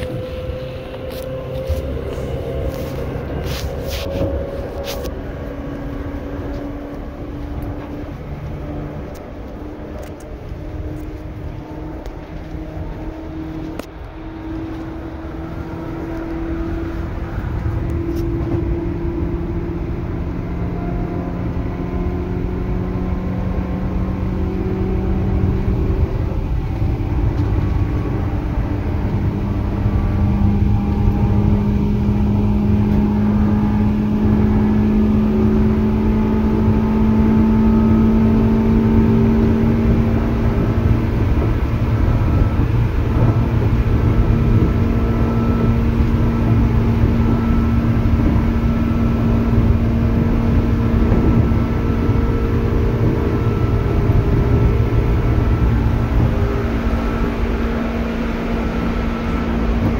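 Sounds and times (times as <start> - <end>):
electric motor whine: 0.0 - 59.9
train wheels rumbling on rail: 0.0 - 59.9.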